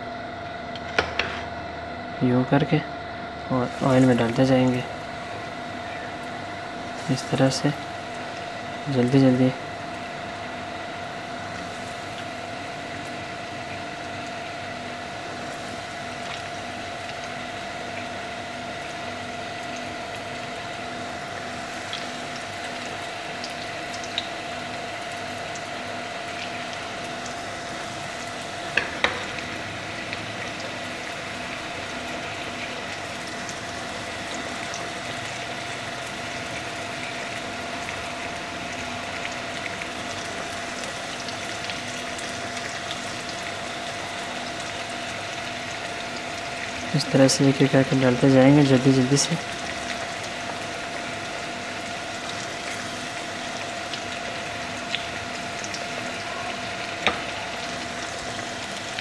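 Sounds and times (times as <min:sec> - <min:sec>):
steady hum: 0:00.0 - 0:59.0
chicken frying in hot oil: 0:03.5 - 0:59.0.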